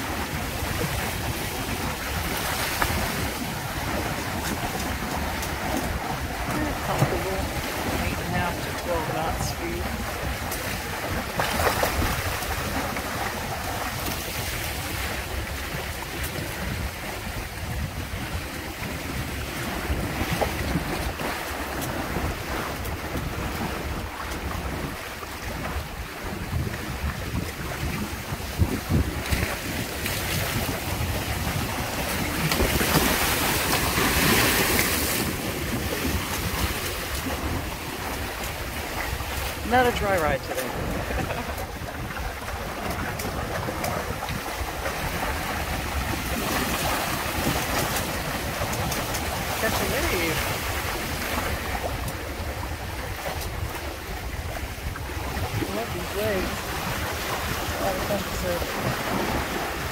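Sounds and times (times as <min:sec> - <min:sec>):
water rushing along hulls: 0:00.0 - 0:59.9
wind buffeting microphone: 0:00.0 - 0:59.9.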